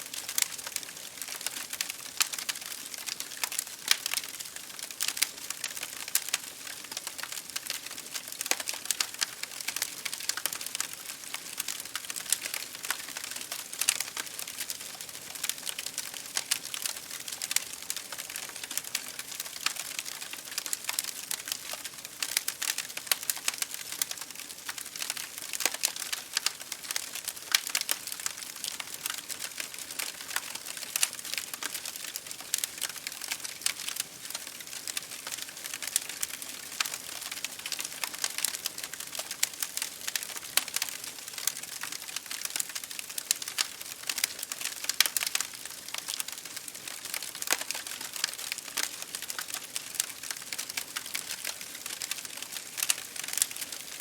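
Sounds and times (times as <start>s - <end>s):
wood fire crackling: 0.0s - 54.0s
rain on window glass: 0.1s - 54.0s.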